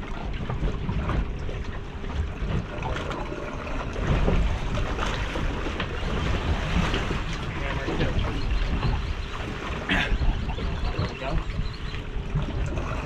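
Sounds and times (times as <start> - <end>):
water lapping around boat: 0.0 - 13.0
wind on microphone: 0.0 - 13.0.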